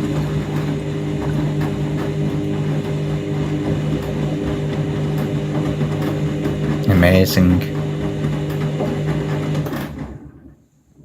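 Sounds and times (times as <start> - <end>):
washing machine motor hum: 0.0 - 11.0.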